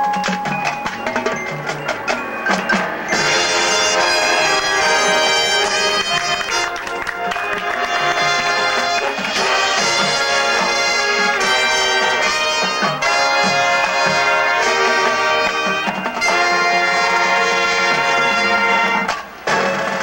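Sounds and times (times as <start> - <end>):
brass section playing chords: 2.9 - 19.8.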